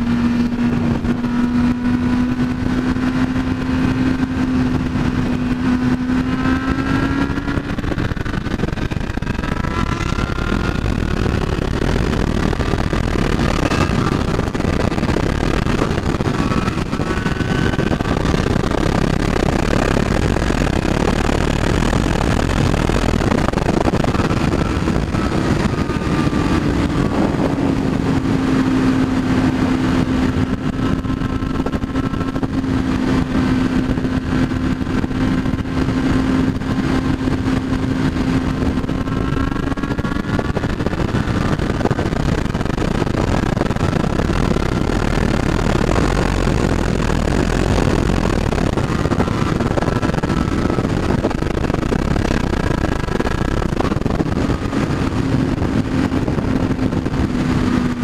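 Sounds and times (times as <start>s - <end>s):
motorcycle engine at speed: 0.0s - 58.0s
wind rush on microphone: 0.0s - 58.0s.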